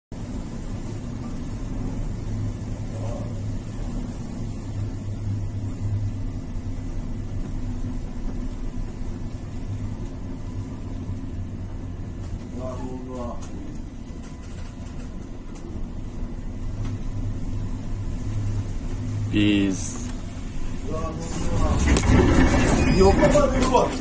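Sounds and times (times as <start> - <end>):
wind and sea hiss: 0.2 - 21.7
ship engines droning: 0.2 - 24.0.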